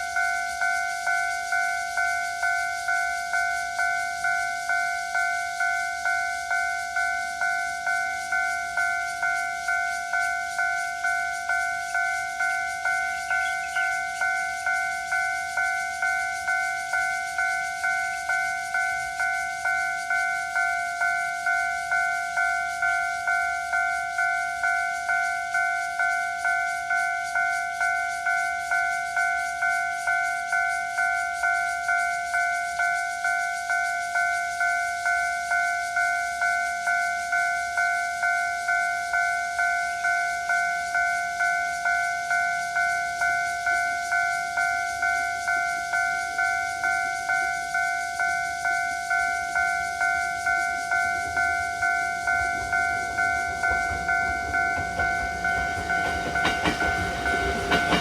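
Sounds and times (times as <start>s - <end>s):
level-crossing bell ringing: 0.0s - 58.0s.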